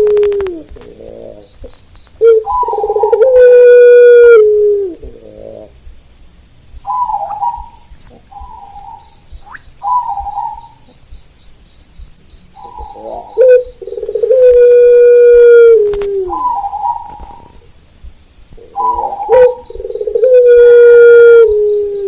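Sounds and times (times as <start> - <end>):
dove cooing: 0.0 - 5.8, 6.8 - 11.1, 12.5 - 17.7, 18.6 - 22.0.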